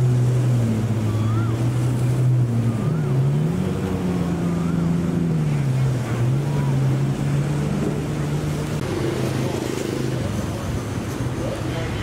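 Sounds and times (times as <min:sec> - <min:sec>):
motor engines running: 0:00.0 - 0:11.8.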